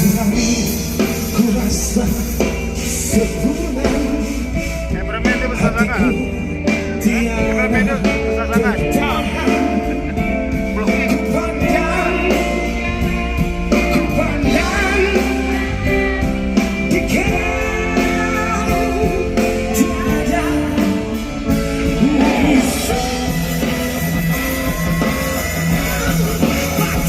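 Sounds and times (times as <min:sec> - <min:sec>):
guitar: 0:00.0 - 0:27.0
live rock band playing: 0:00.0 - 0:27.0
wavering lead melody: 0:00.0 - 0:27.0.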